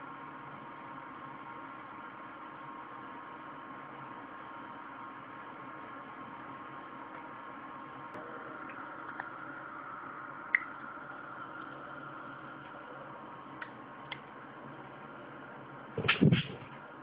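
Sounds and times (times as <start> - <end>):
faint even hum: 0.0 - 17.0.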